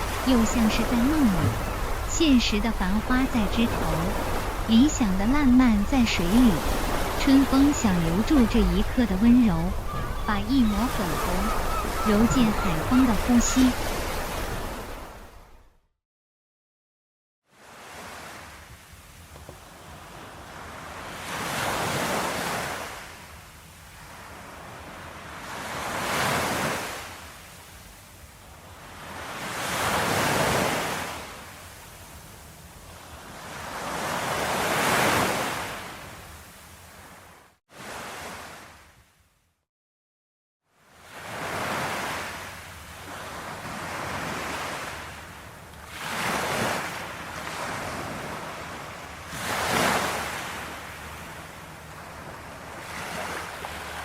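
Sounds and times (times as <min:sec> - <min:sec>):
sea waves breaking on shore: 0:00.0 - 0:15.7, 0:17.5 - 0:39.0, 0:40.7 - 0:54.0.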